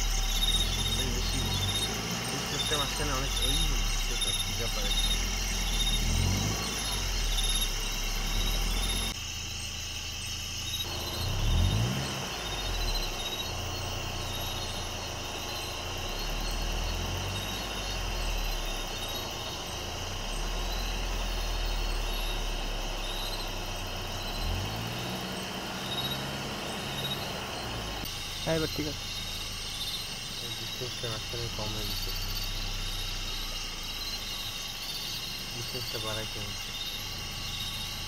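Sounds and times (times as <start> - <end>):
night insects chirping: 0.0 - 38.0
vehicle engine idling: 0.0 - 38.0.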